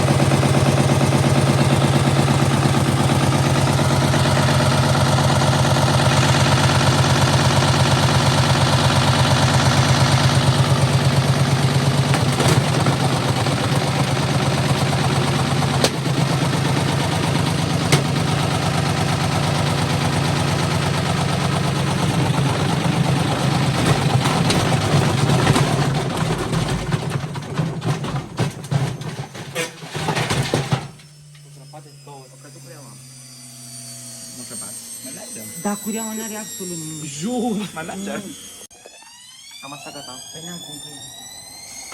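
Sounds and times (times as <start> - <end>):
washing machine spinning: 0.0 - 31.4, 33.6 - 41.9.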